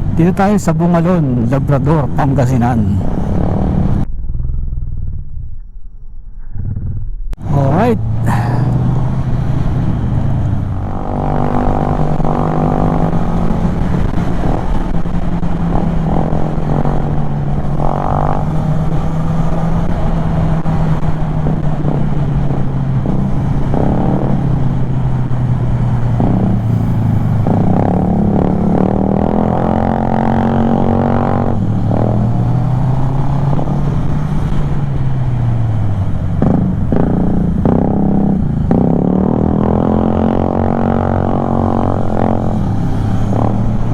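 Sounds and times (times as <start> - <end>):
scooter engine cruising: 0.0 - 5.6, 6.6 - 43.9.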